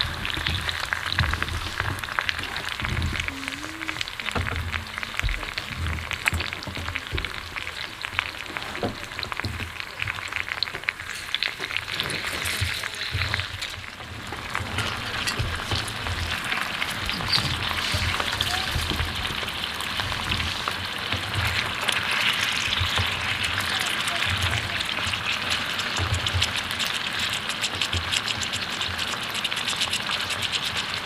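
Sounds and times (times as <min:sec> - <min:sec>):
prawns sizzling in oil: 0:00.0 - 0:31.0.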